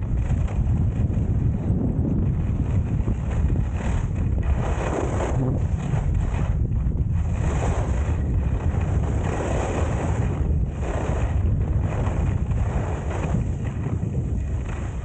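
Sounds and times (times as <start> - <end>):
skis sliding on snow: 0.0 - 15.0
steady low rumble: 0.0 - 15.0
wind buffeting microphone: 0.0 - 15.0.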